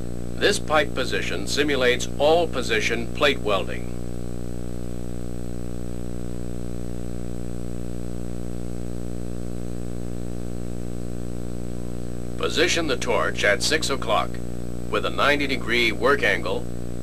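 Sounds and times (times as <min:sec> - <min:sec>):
low electrical mains hum: 0:00.0 - 0:17.0.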